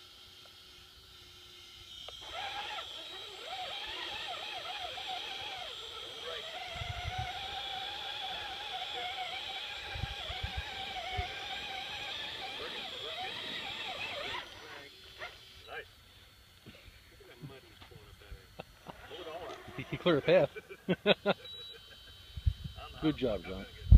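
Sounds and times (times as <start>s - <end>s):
electric motors whining: 0.0s - 23.9s.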